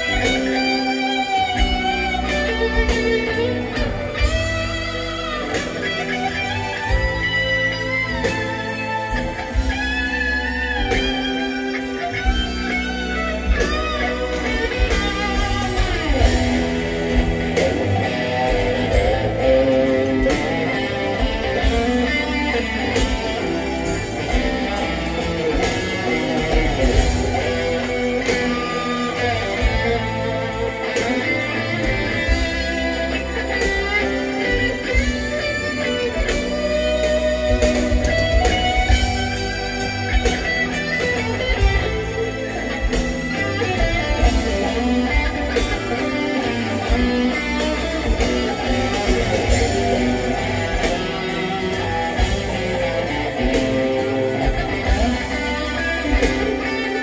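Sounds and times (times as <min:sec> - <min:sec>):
electric guitar lead with bends: 0:00.0 - 0:57.0
steady drums: 0:00.0 - 0:57.0.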